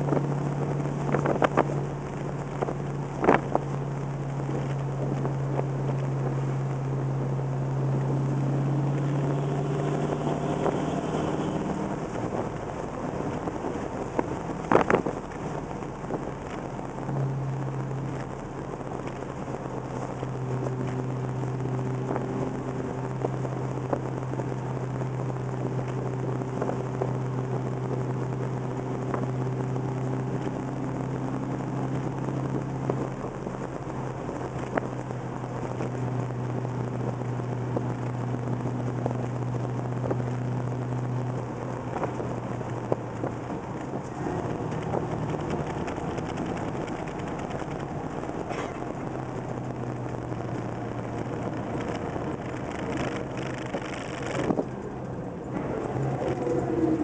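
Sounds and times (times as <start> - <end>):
car engine drone from cabin: 0.0 - 57.0
tyre and road noise: 0.0 - 57.0.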